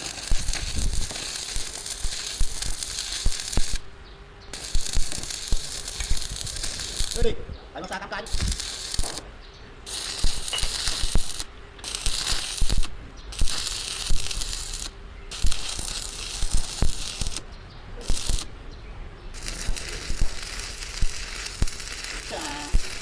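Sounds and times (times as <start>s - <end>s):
crackling hissing metalwork: 0.0s - 23.0s.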